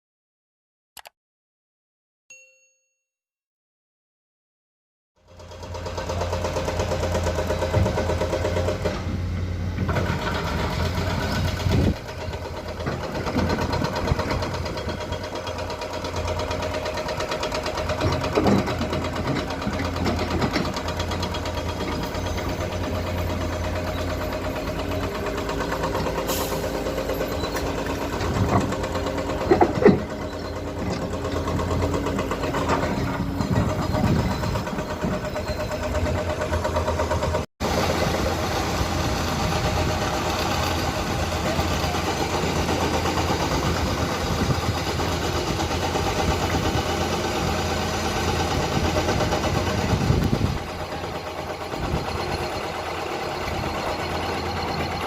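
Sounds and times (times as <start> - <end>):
excavator diesel engine running: 5.2 - 55.0.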